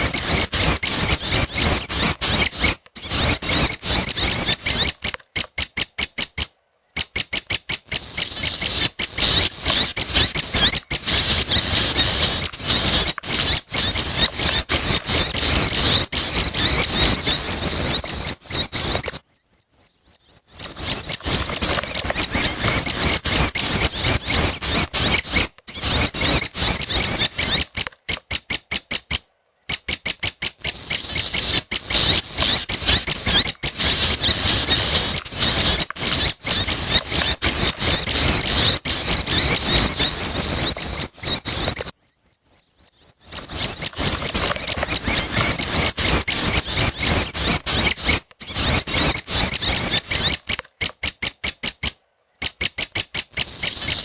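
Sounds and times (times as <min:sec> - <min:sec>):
bird chattering call: 0:00.0 - 0:19.3, 0:20.0 - 0:41.9, 0:42.8 - 0:54.0.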